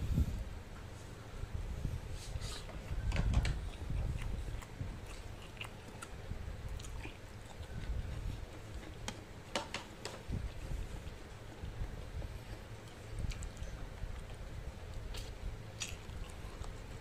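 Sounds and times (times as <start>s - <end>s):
man chewing and eating: 0.6s - 17.0s.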